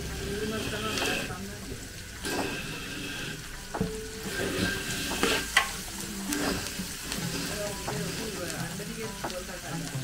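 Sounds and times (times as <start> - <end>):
stirring tool scraping a pot: 0.0 - 1.5, 2.2 - 9.3
curry sizzling in a pot: 0.0 - 10.0.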